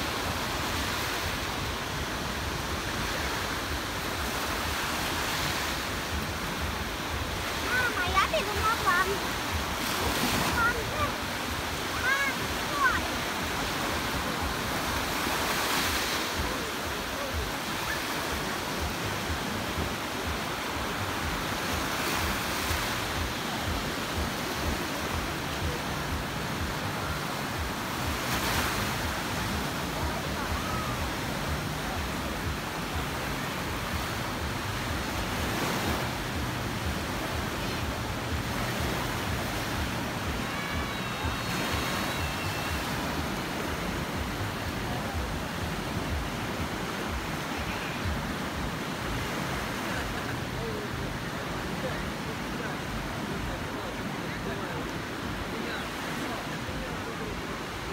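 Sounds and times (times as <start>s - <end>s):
waves breaking on beach: 0.0s - 57.9s.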